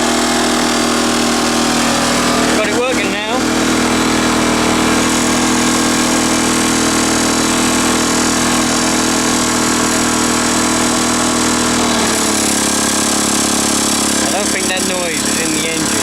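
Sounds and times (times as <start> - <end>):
extra mechanical noise: 0.0 - 16.0
lawn mower engine running: 0.0 - 16.0.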